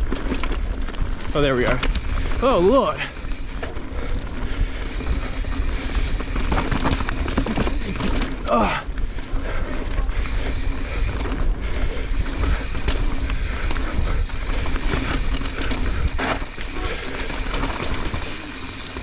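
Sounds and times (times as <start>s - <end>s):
bike knocking on bumps: 0.0s - 8.8s, 9.5s - 19.0s
tyre and trail noise: 0.0s - 19.0s
wind rushing over microphone: 1.1s - 18.2s.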